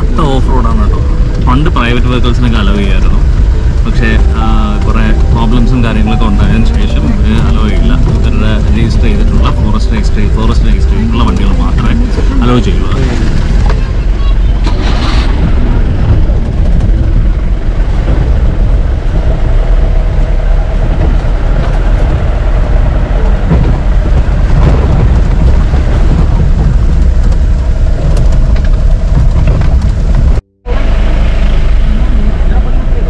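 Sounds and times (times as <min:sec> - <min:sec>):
jeep engine rumbling over rough track: 0:00.0 - 0:33.0.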